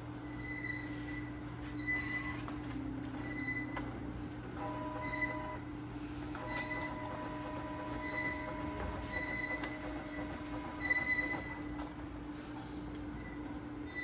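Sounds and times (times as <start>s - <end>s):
printer motor whine: 0.3s - 14.0s.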